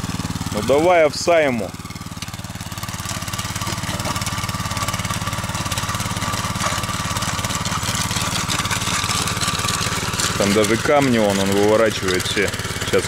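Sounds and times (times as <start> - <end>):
walk-behind tractor engine running: 0.0 - 13.0.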